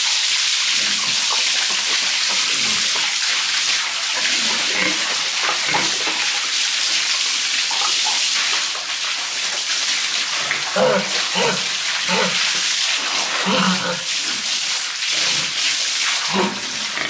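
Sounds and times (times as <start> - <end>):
water spraying: 0.0 - 17.0.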